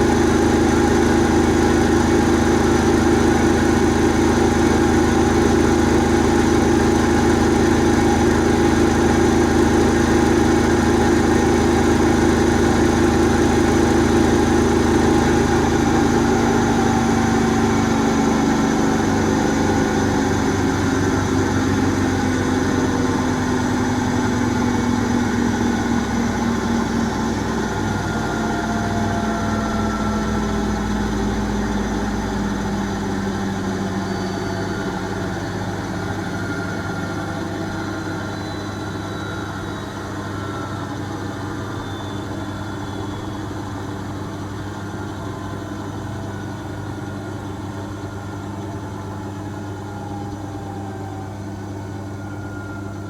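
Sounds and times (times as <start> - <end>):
washing machine winding down: 0.0 - 53.0.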